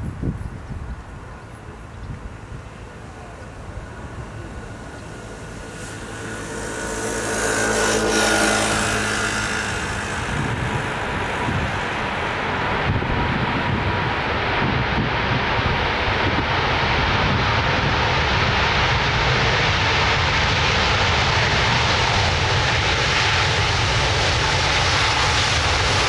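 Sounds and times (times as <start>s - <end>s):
jet engines whining and roaring: 0.0s - 26.0s.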